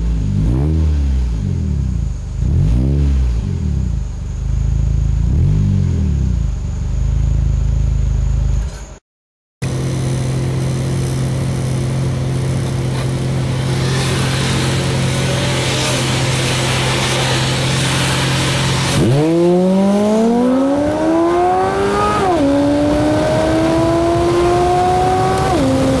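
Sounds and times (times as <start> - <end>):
car engine accelerating: 0.0 - 8.7, 9.6 - 26.0.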